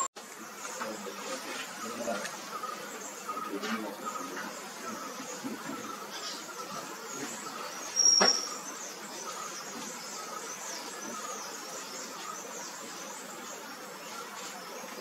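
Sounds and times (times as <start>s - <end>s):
faint bird chirps: 0.0s - 15.0s
insects: 0.0s - 15.0s.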